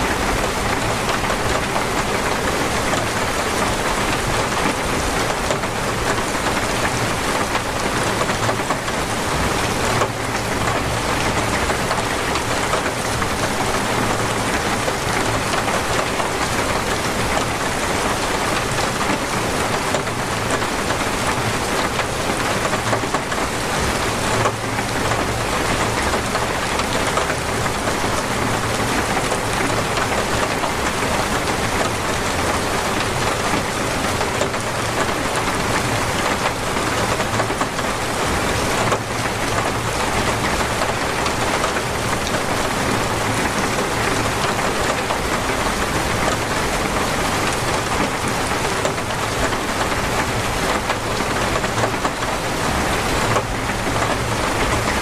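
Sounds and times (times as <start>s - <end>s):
heavy torrential rain: 0.0s - 55.0s.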